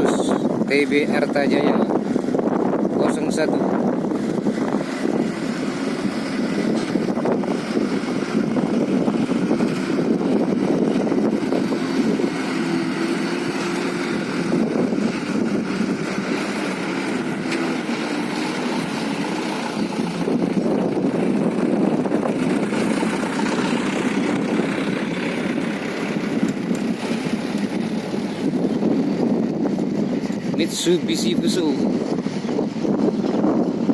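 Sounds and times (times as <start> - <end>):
diesel trucks driving past: 0.0 - 33.9.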